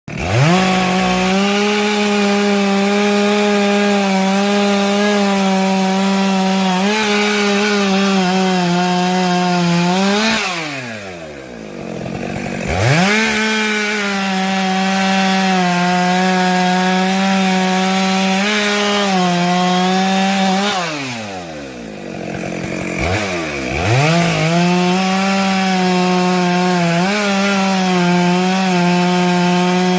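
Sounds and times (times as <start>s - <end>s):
chainsaw cutting logs: 0.1s - 29.9s.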